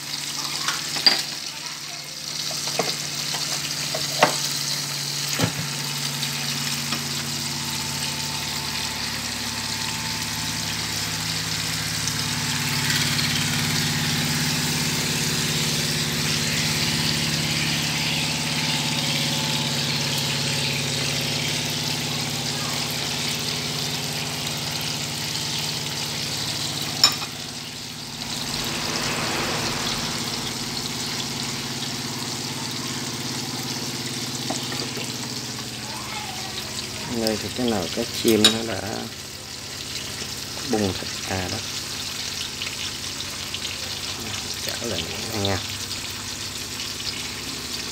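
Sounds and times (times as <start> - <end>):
bubbling sizzle in a pan: 0.0 - 47.9
cooktop hum: 0.0 - 47.9.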